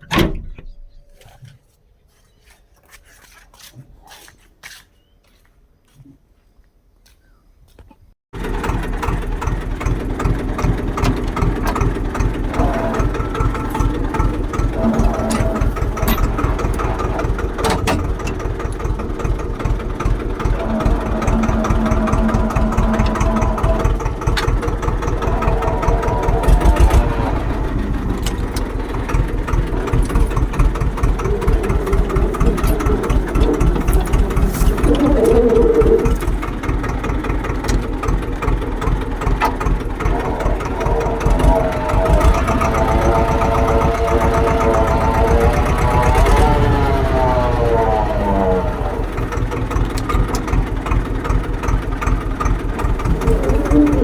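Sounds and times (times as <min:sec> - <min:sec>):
diesel tractor engine chugging: 0:08.4 - 0:54.0.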